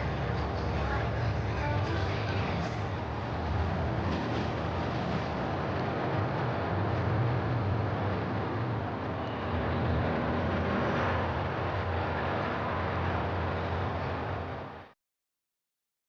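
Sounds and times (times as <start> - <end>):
traffic rumble: 0.0 - 14.9.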